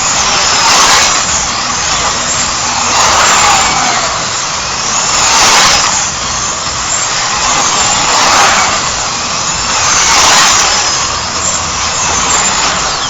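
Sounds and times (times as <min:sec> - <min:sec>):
slot car motors whining: 0:00.0 - 0:13.0.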